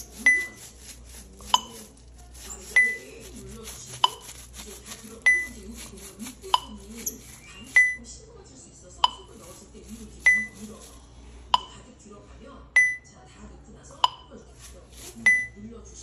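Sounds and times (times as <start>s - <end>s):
faint low voices: 0.0s - 16.0s.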